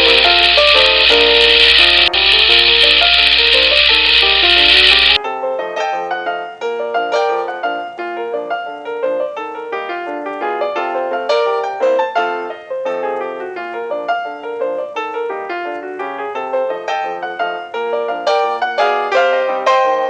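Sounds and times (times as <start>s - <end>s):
lively piano music: 0.0s - 20.0s.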